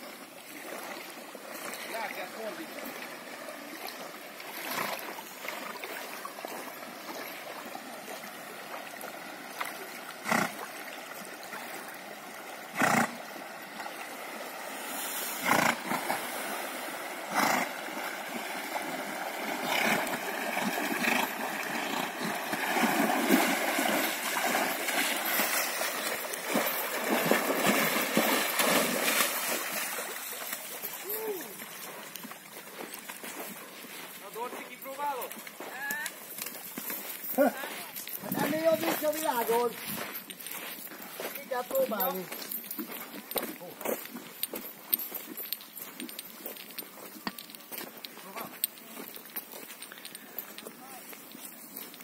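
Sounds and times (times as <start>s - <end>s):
horses splashing through water: 0.0s - 52.0s.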